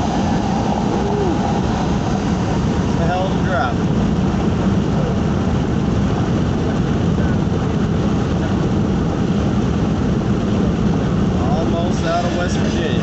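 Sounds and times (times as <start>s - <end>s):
car engine hum: 0.0s - 13.0s
road and tyre rumble: 0.0s - 13.0s.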